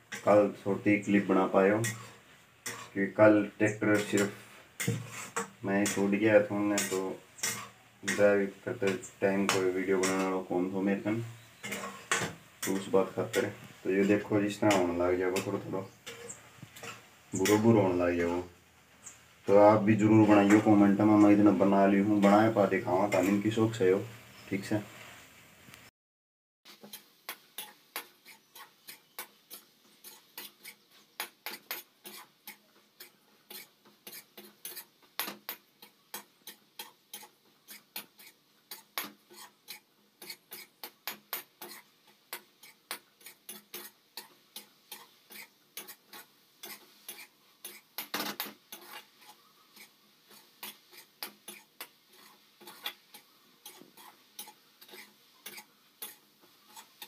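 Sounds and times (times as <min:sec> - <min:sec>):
steel spoon scraping metal pan: 0:00.0 - 0:18.5, 0:19.7 - 0:24.7, 0:26.7 - 0:57.0.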